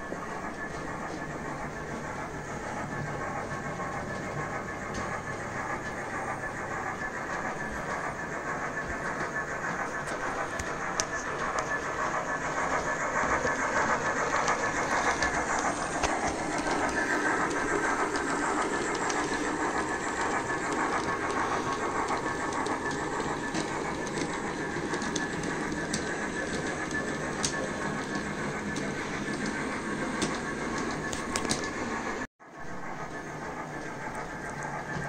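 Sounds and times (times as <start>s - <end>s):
model train running on track: 0.0s - 35.0s.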